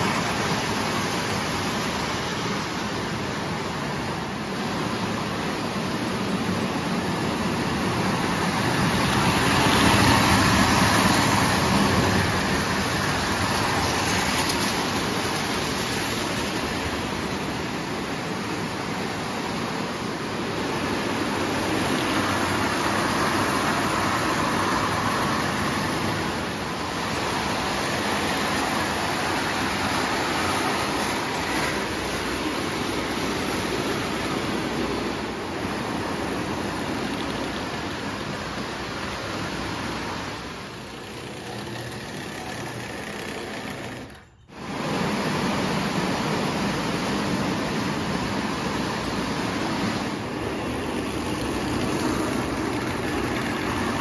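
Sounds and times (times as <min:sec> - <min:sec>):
toy trains rumbling on tin rails: 0:06.2 - 0:19.6, 0:20.5 - 0:46.2, 0:46.8 - 0:54.0.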